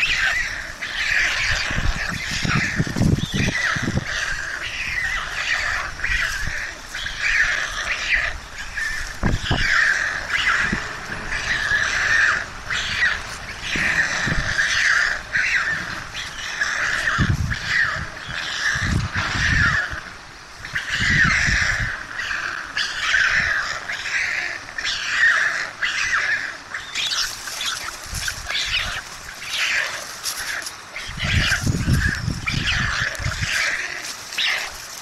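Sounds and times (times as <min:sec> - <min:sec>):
young storks begging calls: 0:00.0 - 0:35.0.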